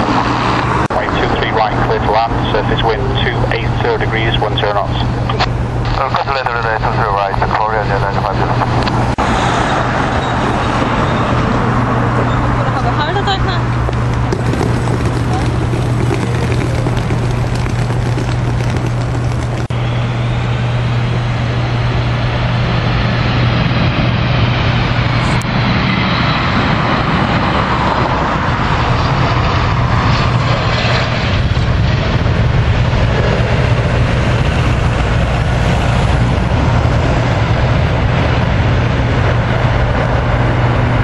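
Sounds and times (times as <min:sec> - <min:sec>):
jet engines landing: 0:00.0 - 0:41.0.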